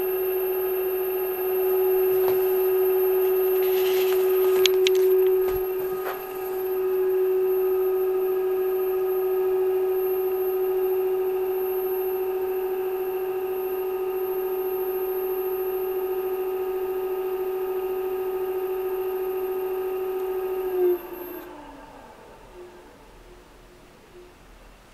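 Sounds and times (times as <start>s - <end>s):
electric hub motor whine: 0.0s - 24.6s
faint high-pitched whine: 0.0s - 24.9s.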